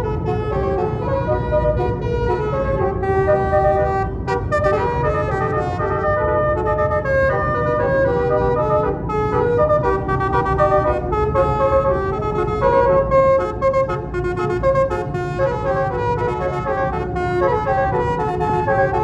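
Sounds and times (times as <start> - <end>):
bus musical air horn tune: 0.0 - 19.0.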